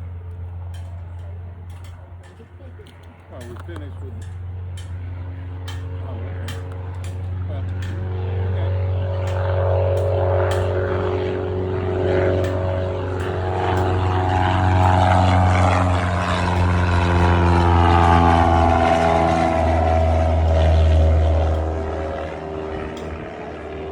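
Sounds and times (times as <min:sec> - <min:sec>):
propeller airplane passing: 0:00.0 - 0:23.9.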